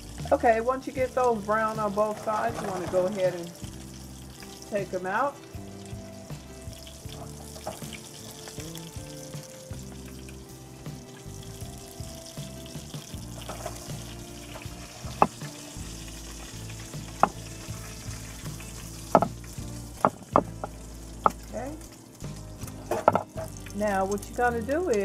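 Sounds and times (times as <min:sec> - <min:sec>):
meat patties sizzling in a skillet: 0:00.0 - 0:25.0.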